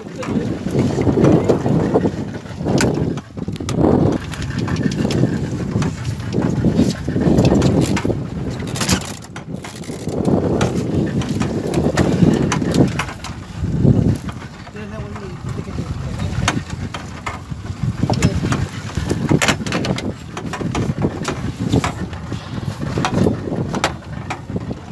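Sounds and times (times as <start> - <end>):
wind rumbling on microphone: 0.0 - 24.9.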